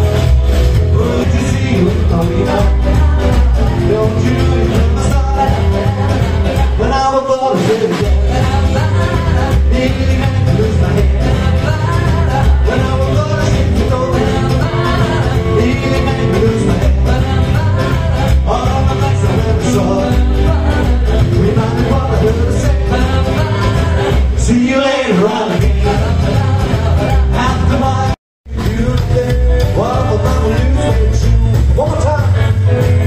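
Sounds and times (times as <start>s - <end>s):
rock and roll band playing: 0.0s - 33.0s
person singing: 0.8s - 33.0s.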